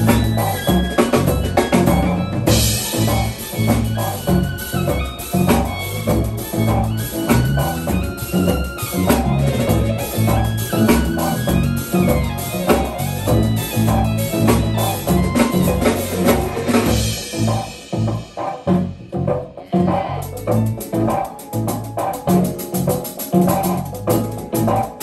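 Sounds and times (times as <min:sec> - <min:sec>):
jazz trio playing: 0:00.0 - 0:25.0.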